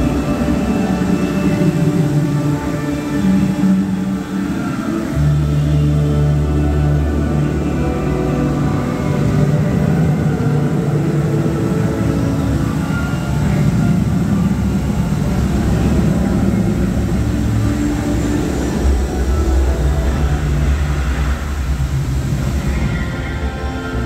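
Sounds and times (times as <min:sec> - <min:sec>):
fountain water jets rushing: 0:00.0 - 0:24.0
music over speakers: 0:00.0 - 0:24.0.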